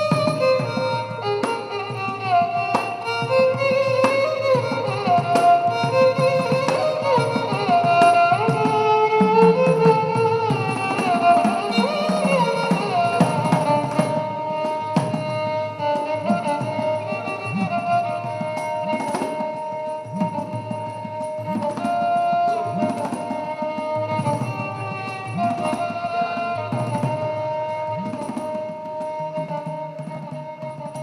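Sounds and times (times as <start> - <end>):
hand drum percussion: 0.0 - 31.0
violin melody: 0.0 - 31.0.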